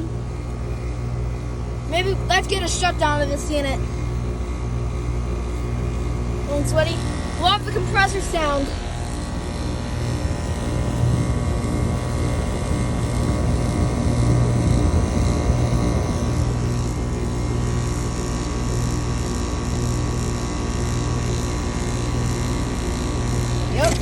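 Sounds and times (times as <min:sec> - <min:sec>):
air conditioner compressor hum: 0:00.0 - 0:24.0
condenser fan whoosh: 0:00.0 - 0:24.0.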